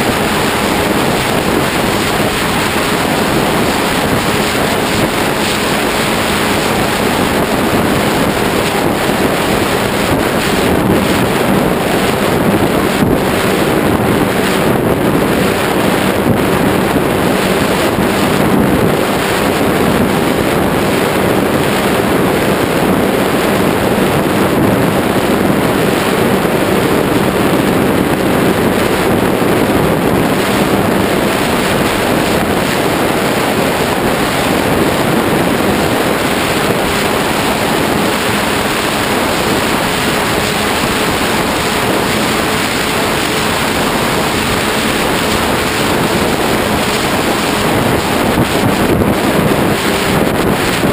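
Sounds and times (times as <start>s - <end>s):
motor and propeller hum: 0.0s - 50.9s
wind buffeting microphone: 0.0s - 50.9s.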